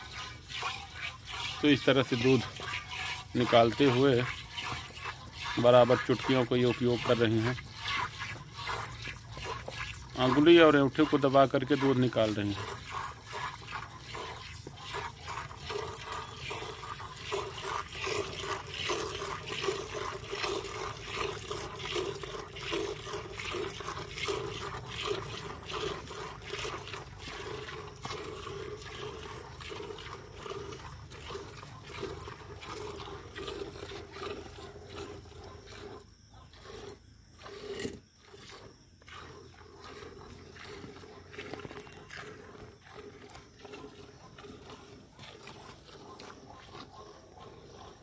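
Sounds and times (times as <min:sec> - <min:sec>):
milk squirting into steel bucket: 0:00.0 - 0:48.0.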